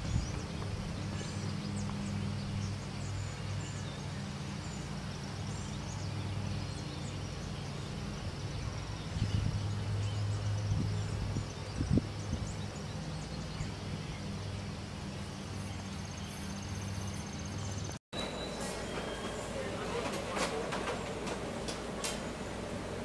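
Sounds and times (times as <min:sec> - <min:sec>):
vehicle engine hum: 0:00.0 - 0:23.0.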